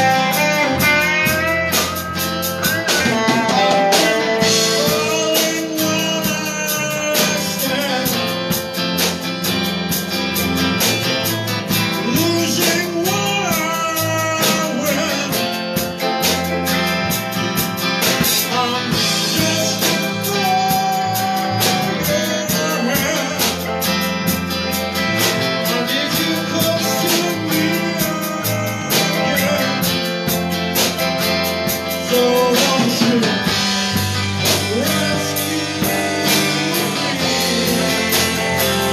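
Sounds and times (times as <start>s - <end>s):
bending guitar notes: 0.0s - 38.9s
blues band playing: 0.0s - 38.9s.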